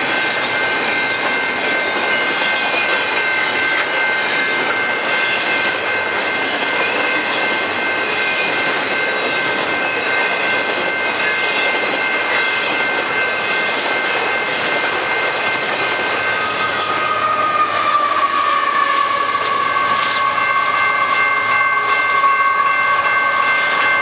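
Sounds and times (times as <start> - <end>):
passing locomotive tone: 0.0 - 24.0
train wheels on rails: 0.0 - 24.0.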